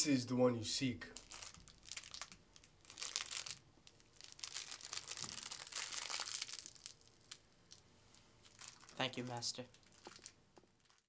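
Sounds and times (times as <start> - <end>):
plastic wrapper crinkling: 1.2 - 7.8, 8.4 - 11.0.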